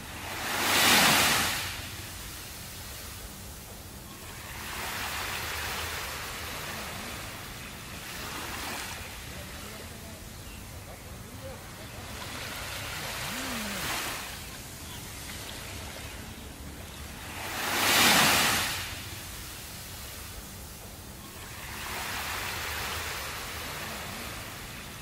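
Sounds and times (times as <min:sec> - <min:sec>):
small waves breaking on beach: 0:00.0 - 0:25.0.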